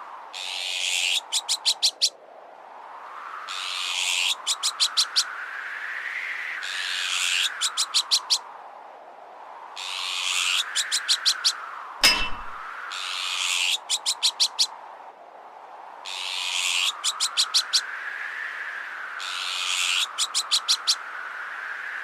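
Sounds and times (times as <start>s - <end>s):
howling wind: 0.0s - 22.0s.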